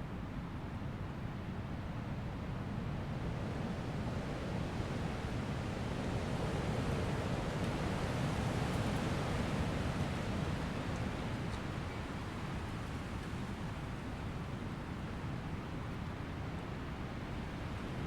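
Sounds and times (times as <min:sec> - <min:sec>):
strong wind through trees: 0:01.4 - 0:18.0.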